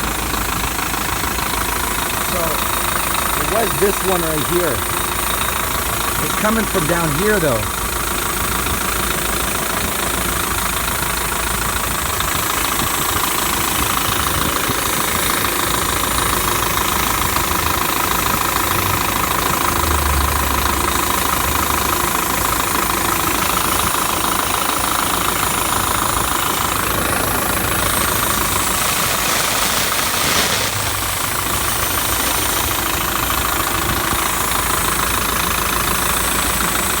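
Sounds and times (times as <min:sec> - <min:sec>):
loud steady hissing: 0:00.0 - 0:37.0.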